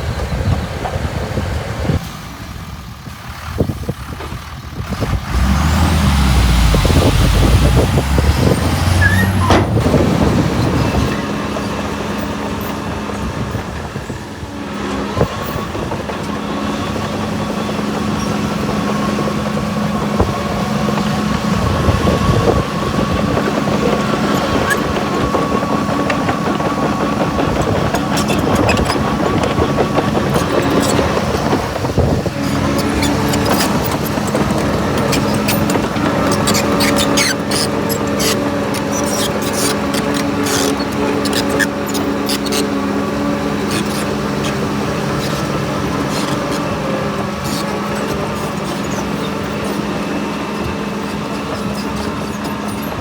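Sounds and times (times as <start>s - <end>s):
diesel machinery engine: 0.0s - 53.0s.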